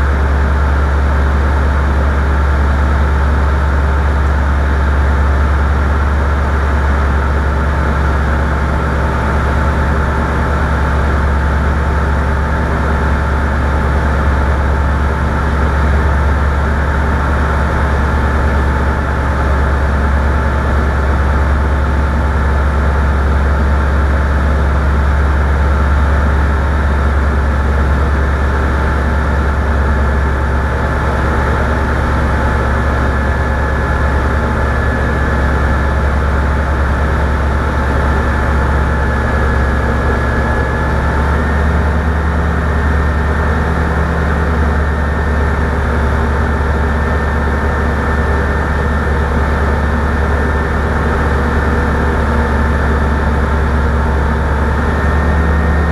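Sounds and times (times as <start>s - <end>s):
engine droning steadily: 0.0s - 55.9s.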